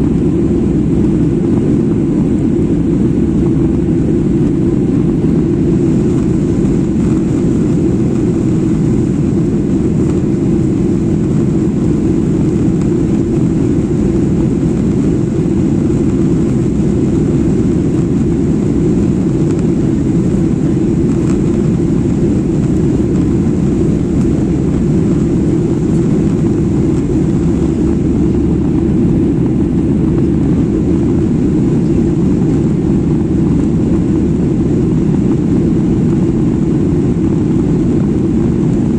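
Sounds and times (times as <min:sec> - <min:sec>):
jet airliner cabin noise: 0:00.0 - 0:38.9.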